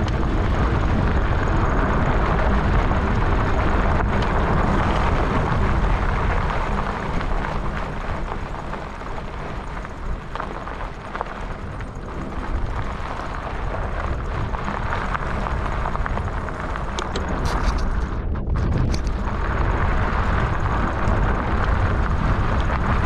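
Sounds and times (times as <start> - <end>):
tyres rumbling on dirt road: 0.0 - 23.0
wind rushing over microphone: 0.0 - 23.0.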